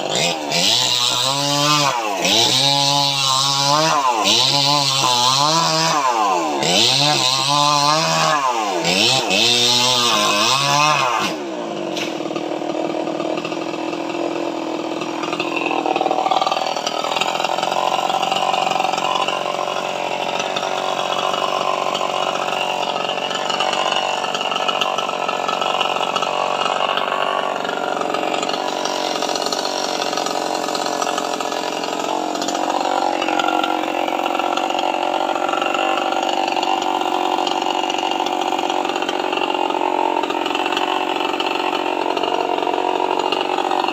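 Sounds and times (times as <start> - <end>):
chainsaw running: 0.0 - 43.9.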